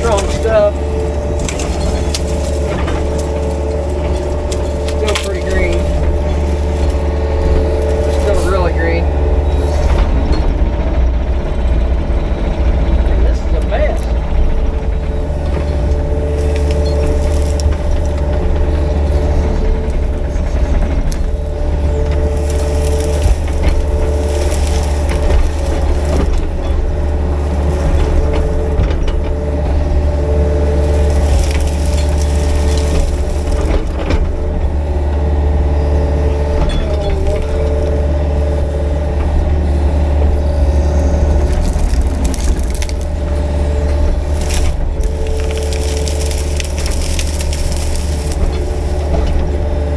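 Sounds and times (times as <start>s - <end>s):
rake clanking through brush: 0.0s - 10.8s, 12.2s - 49.9s
diesel engine running: 0.0s - 49.9s.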